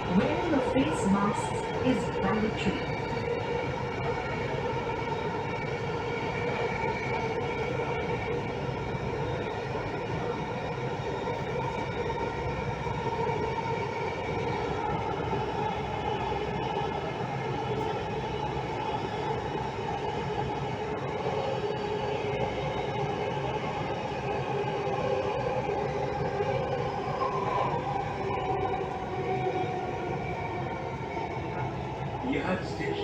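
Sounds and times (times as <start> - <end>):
steady whining tones: 0.0 - 33.0
train rumble: 0.0 - 33.0.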